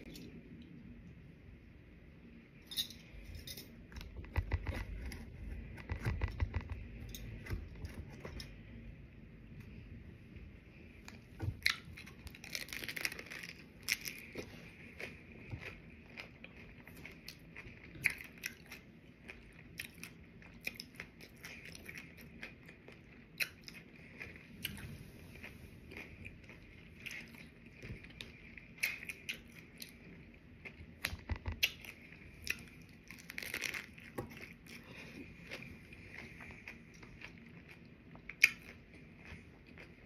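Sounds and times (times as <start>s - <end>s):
person chewing crunchy tacos: 3.1s - 8.9s, 10.8s - 40.0s.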